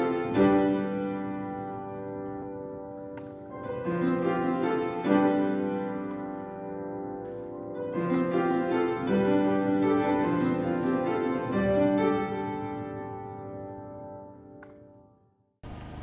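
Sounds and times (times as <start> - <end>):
piano intro music: 0.0 - 15.2.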